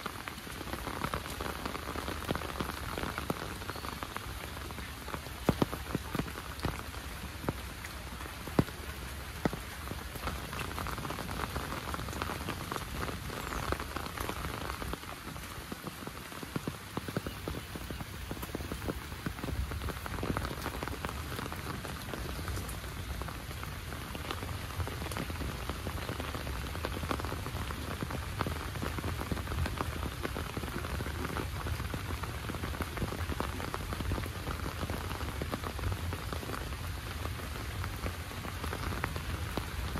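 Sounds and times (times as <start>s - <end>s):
heavy rain falling: 0.0s - 39.9s
sharp taps of raindrops: 0.0s - 39.9s.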